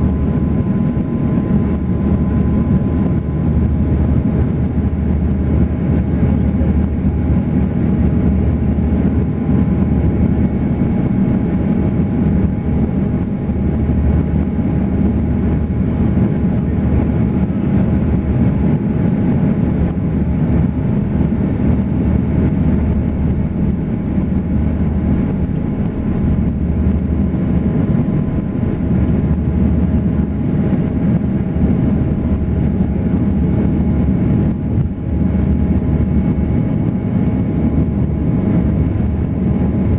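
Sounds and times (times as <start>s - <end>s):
airliner engine rumble: 0.0s - 39.9s
steady hum tones: 0.0s - 39.9s.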